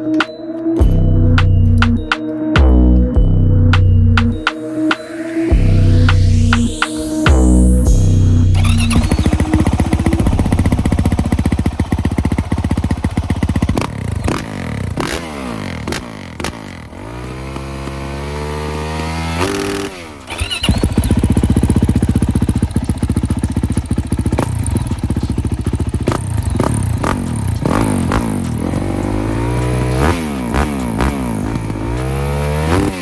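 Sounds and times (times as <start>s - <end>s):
motorcycle engine revving: 0.8s - 33.0s.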